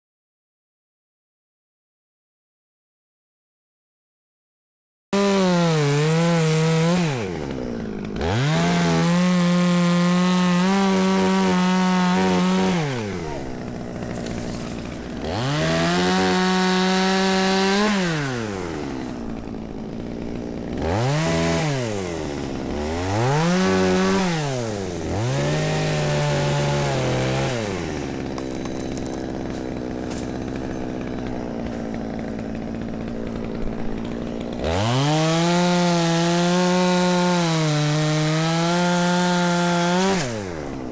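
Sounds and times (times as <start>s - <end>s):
chainsaw revving and idling: 5.2s - 40.9s.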